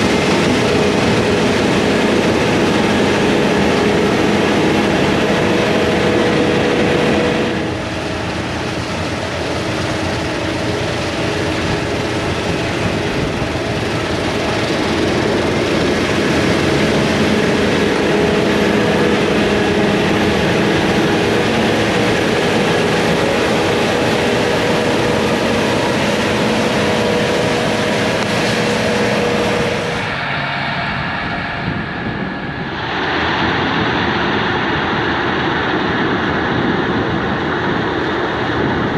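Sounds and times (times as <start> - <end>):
diesel farm machinery running: 0.0 - 38.9.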